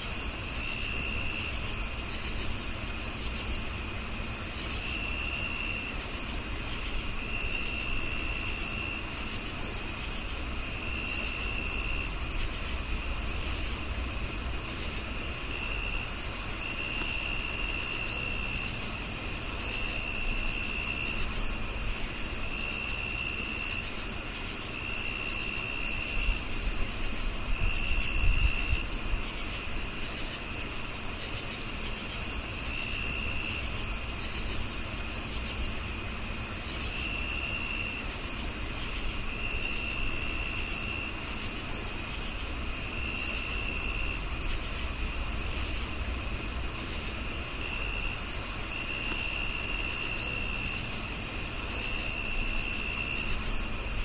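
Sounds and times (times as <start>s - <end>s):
cricket continuous high trill: 0.0s - 54.0s
lower cricket trill bursts: 0.0s - 54.0s.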